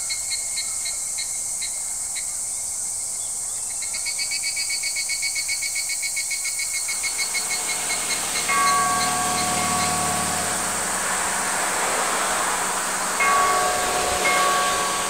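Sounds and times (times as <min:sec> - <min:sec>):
insects high hiss: 0:00.0 - 0:15.0
insects pulsing chirping: 0:00.0 - 0:15.0.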